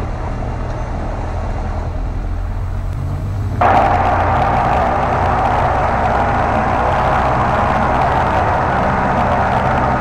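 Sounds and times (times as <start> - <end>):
aircraft engine drone: 0.1 - 10.0.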